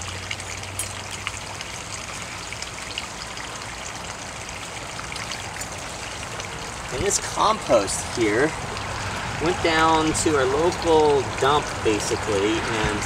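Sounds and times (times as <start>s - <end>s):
trickling stream: 0.0s - 13.0s.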